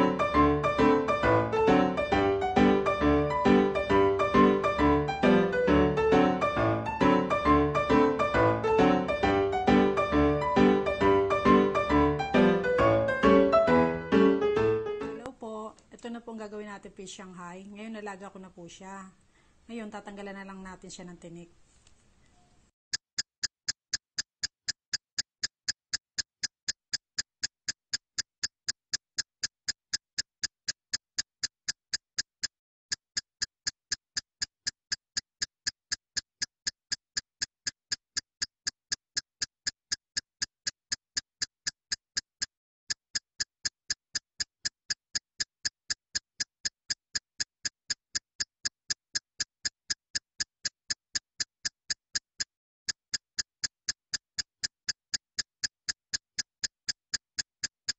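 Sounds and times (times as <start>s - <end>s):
electronic ticking: 0.0s - 15.0s, 22.9s - 57.9s.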